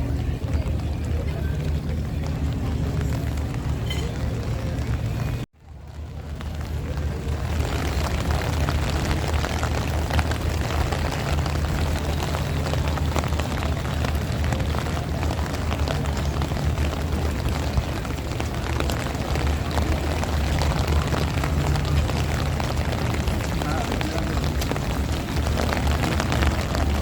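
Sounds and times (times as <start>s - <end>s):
heavy rain falling: 0.0s - 27.0s
wind buffeting microphone: 0.0s - 27.0s.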